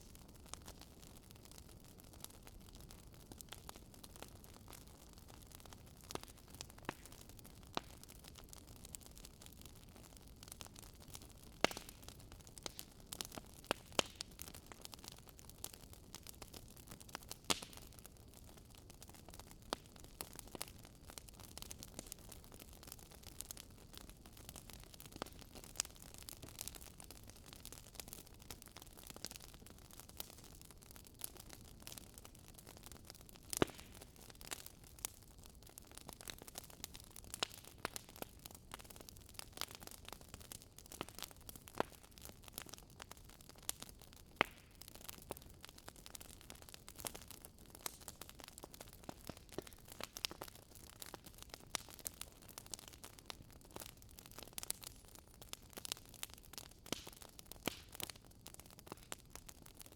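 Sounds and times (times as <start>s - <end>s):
fire pops and snaps: 0.0s - 59.9s
wood fire crackling: 0.0s - 59.9s.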